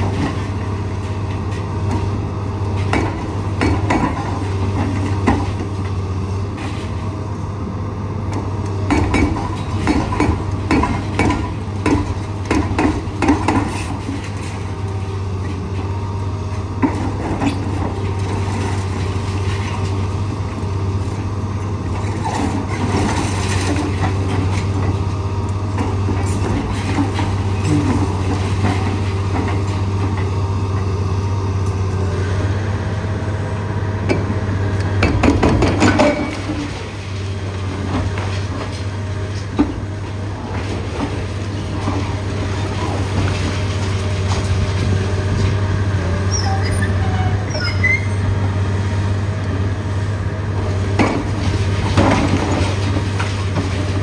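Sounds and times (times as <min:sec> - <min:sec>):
demolition knocks and clatter: 0:00.0 - 0:07.1, 0:08.8 - 0:30.9, 0:34.9 - 0:45.9, 0:50.5 - 0:54.0
excavator engine hum: 0:00.0 - 0:54.0.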